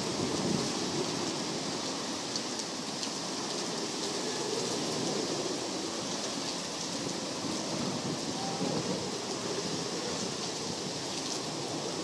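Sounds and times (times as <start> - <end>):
wind and rain rushing: 0.0 - 12.0.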